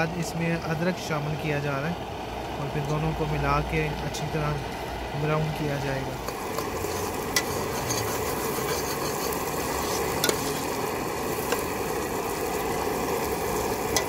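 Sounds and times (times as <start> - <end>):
onions sizzling in oil: 2.0 - 14.0.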